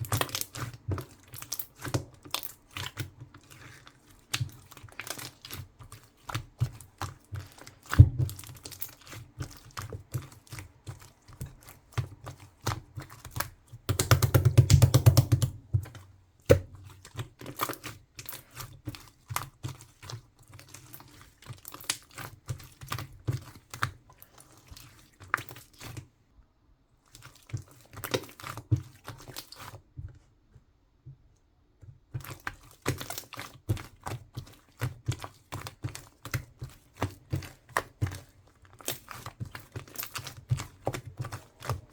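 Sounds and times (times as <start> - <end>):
clay slime squishing and clicking: 0.0 - 26.1, 27.0 - 41.9.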